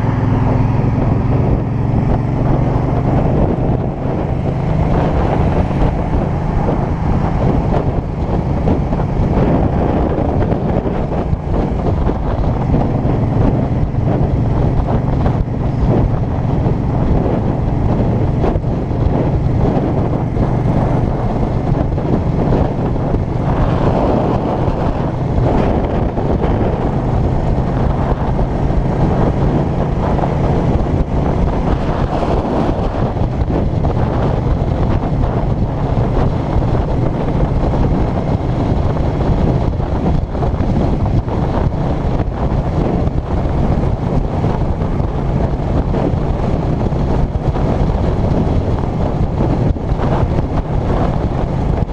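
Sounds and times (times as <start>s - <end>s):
heavy wind noise: 0.0s - 51.9s
motorcycle engine cruising: 0.0s - 51.9s.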